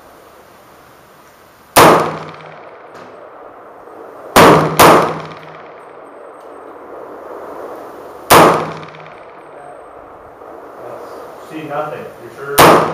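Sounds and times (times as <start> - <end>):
rifle shots with echo: 1.7 - 12.9.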